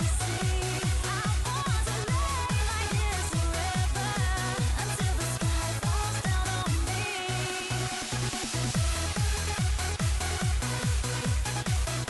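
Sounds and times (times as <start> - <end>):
trance dance music: 0.0 - 12.0.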